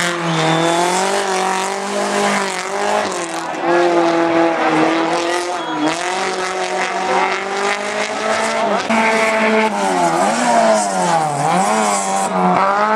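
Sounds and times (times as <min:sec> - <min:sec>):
race car engine revving: 0:00.0 - 0:12.9.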